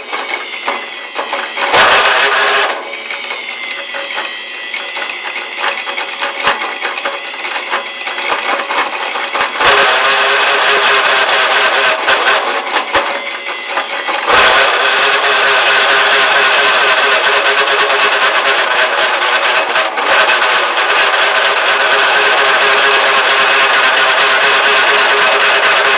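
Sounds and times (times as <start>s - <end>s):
cutting tool chattering on metal: 0.0s - 25.9s
metal lathe running: 0.0s - 25.9s.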